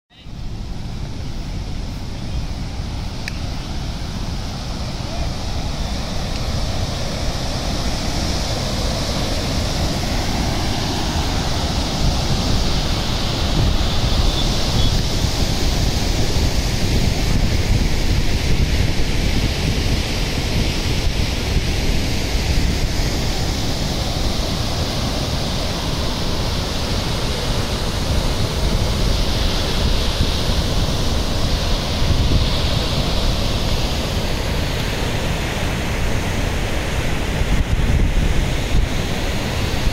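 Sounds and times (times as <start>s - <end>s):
water rushing over a weir: 0.3s - 39.9s
wind buffeting microphone: 0.4s - 39.9s.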